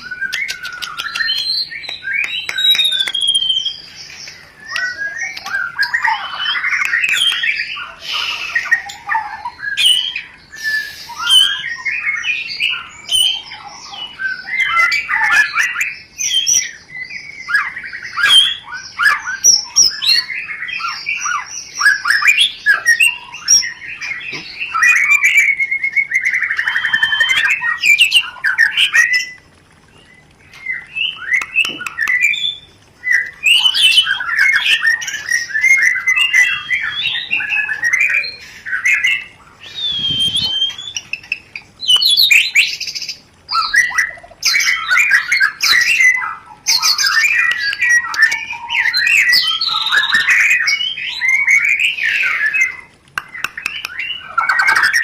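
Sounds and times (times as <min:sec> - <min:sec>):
birds chattering and whistling: 0:00.0 - 0:55.0.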